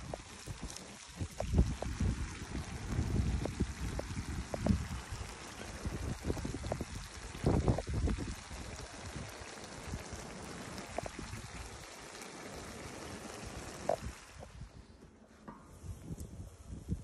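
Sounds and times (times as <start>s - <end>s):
water boiling hard: 0.0s - 17.0s.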